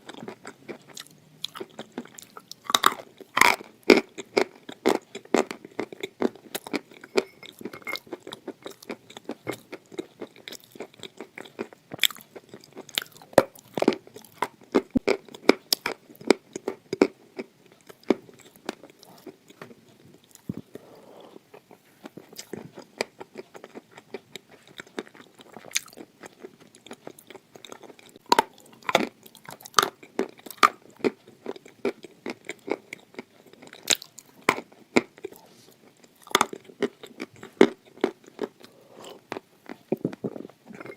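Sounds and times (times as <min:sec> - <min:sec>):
crunching and chewing clay: 0:00.0 - 0:40.9.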